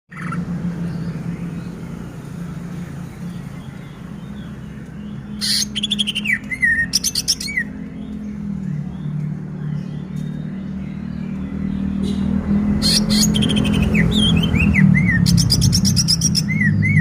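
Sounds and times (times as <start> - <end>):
bird singing: 0.1 - 17.0.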